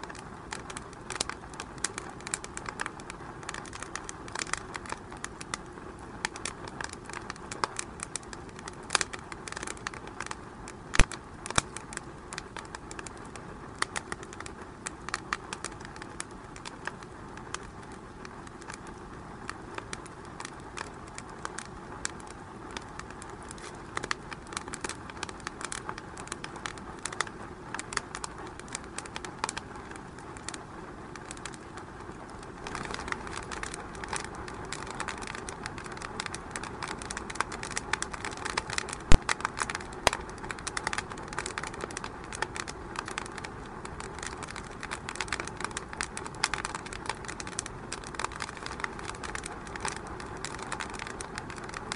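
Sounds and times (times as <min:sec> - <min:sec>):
sharp fire pops: 0:00.0 - 0:51.9
wood fire crackling: 0:00.0 - 0:51.9.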